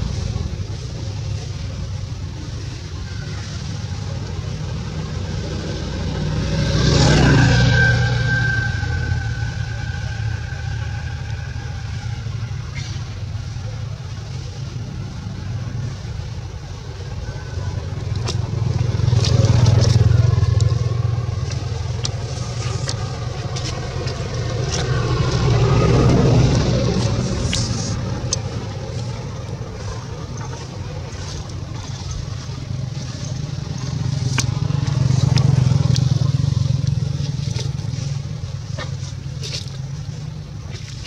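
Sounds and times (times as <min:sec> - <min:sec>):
vehicles passing rumble: 0:00.0 - 0:41.0.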